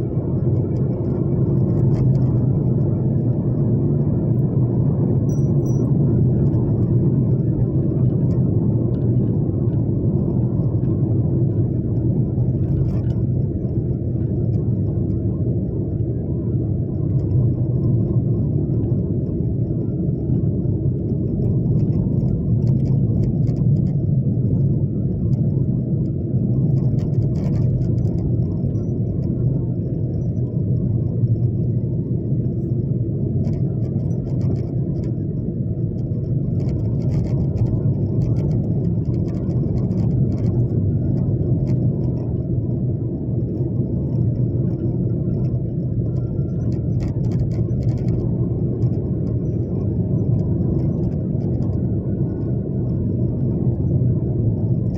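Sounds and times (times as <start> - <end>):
vehicle driving low rumble: 0.0 - 54.9.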